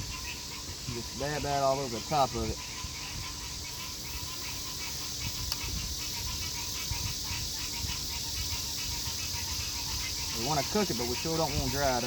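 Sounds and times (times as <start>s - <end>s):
insects chirping: 0.0s - 12.0s
steady high hiss: 0.0s - 12.0s.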